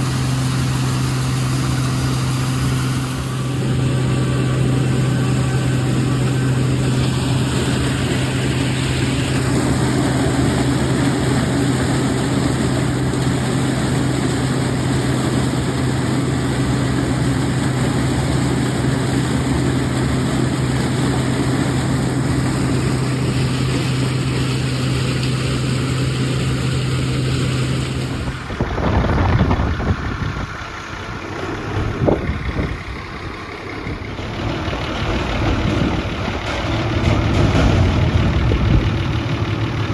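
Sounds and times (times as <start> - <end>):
combine harvester droning: 0.0 - 39.9
uneven low rumbling: 0.0 - 39.9.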